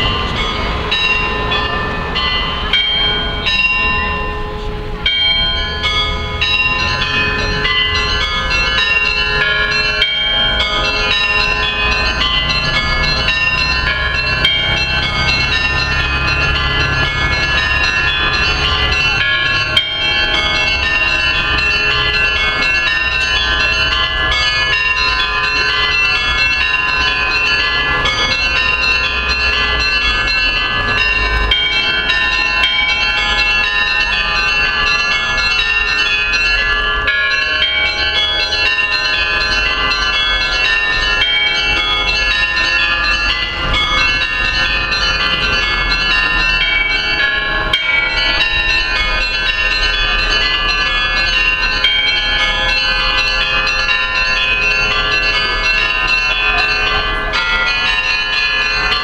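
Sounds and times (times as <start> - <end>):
church bells pealing: 0.0 - 59.0.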